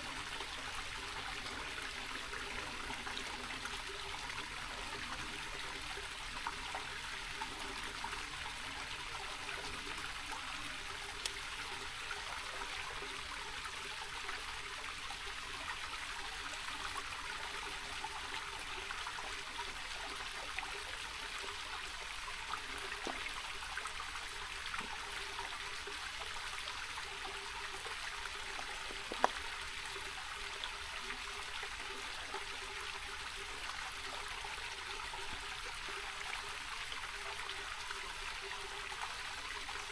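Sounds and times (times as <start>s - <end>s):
creek running over stones: 0.0s - 39.9s.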